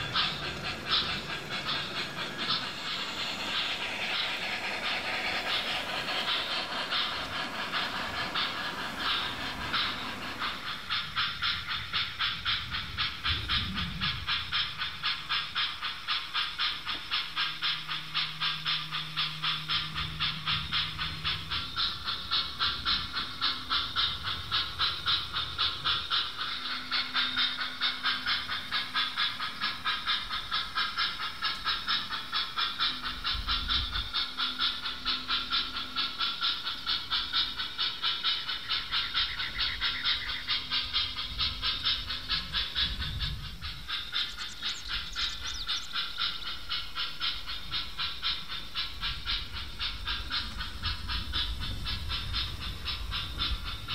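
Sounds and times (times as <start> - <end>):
model train pulsing hiss: 0.0 - 53.9.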